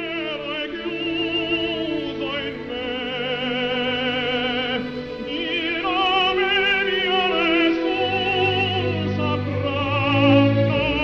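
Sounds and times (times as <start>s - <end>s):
classical accompaniment: 0.0s - 11.0s
operatic singing voice: 0.0s - 11.0s.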